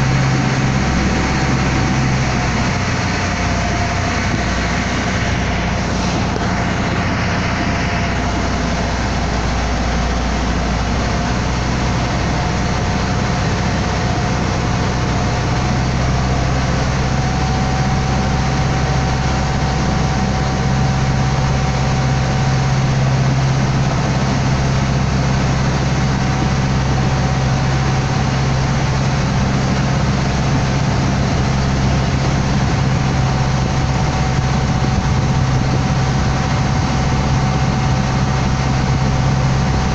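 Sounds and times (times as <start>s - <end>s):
boat engine running: 0.0s - 39.9s
rushing noise: 0.0s - 39.9s.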